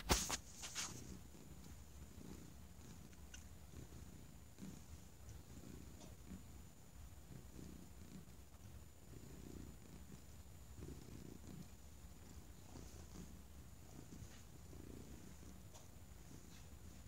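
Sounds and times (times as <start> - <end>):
cat purring: 0.5 - 17.0.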